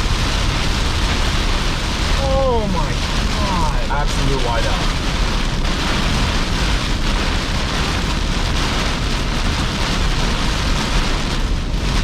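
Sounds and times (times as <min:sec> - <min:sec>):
heavy rain on car roof: 0:00.0 - 0:12.0
vehicle driving rumble: 0:00.0 - 0:12.0.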